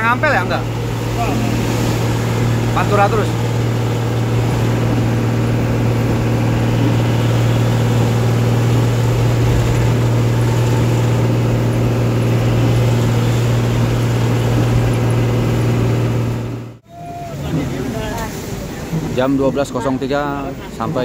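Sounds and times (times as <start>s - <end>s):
bus engine humming: 0.0s - 21.0s
rain and tyres on wet road: 0.0s - 21.0s.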